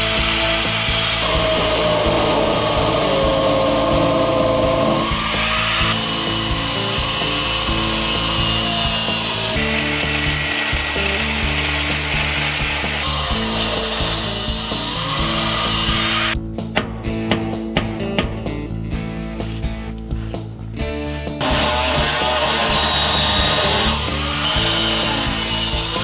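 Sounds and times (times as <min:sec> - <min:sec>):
angle grinder cutting steel: 0:00.0 - 0:16.4, 0:21.4 - 0:26.0
background music: 0:00.0 - 0:26.0.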